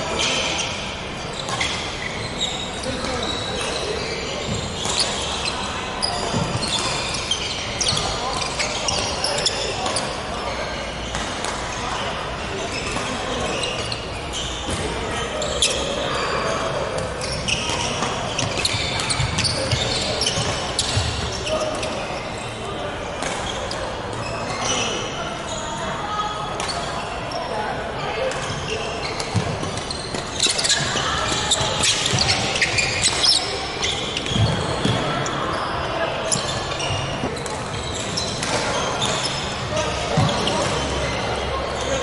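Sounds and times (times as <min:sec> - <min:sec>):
shoe squeaks on wooden floor: 0:00.0 - 0:22.7, 0:23.4 - 0:42.0.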